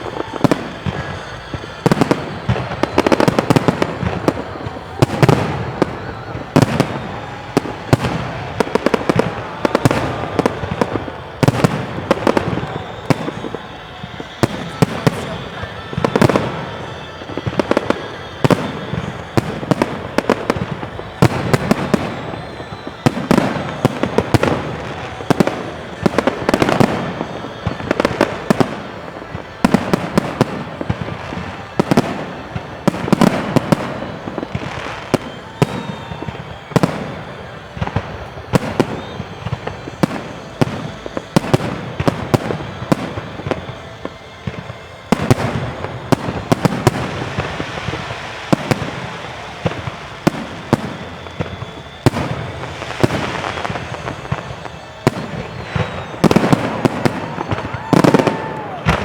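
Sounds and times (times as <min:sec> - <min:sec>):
firework booms: 0:00.0 - 0:59.0
fireworks crackling: 0:00.0 - 0:59.0.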